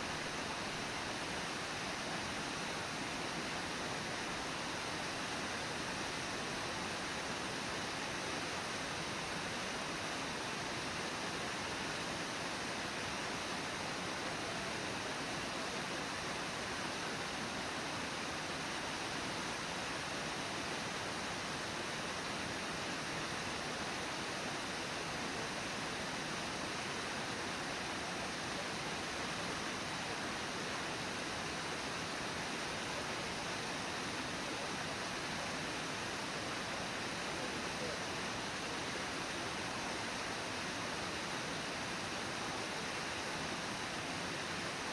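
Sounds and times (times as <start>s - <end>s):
water rushing over falls: 0.0s - 44.9s.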